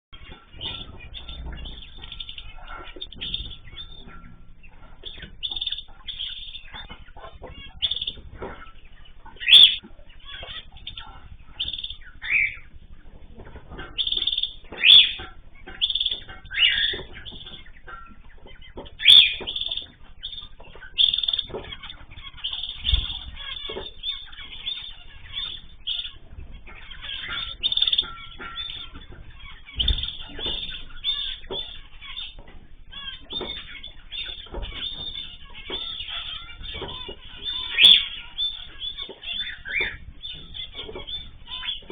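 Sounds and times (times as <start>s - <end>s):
cage birds chirping and calling: 0.1s - 41.9s.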